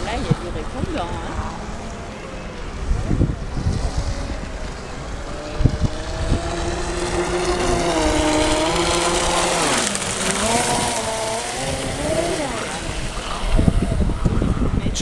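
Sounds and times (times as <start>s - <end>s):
electric motor whine: 0.0s - 14.9s
wind rumbling on microphone: 0.0s - 15.0s.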